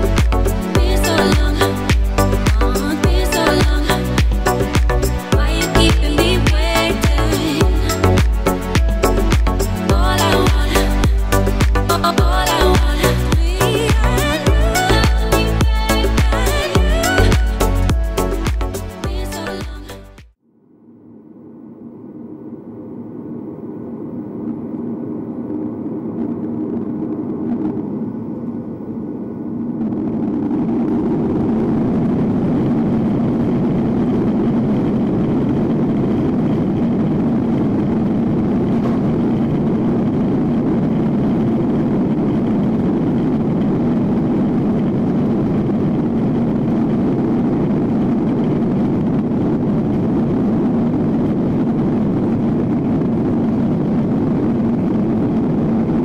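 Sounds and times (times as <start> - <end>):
jet engine cabin noise: 0.0 - 19.7, 20.4 - 56.0.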